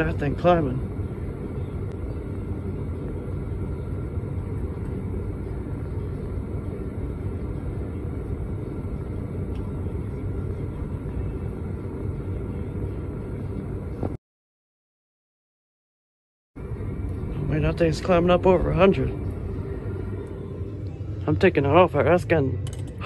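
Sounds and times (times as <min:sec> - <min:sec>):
furnace blower rumble: 0:00.0 - 0:14.2, 0:16.6 - 0:23.0.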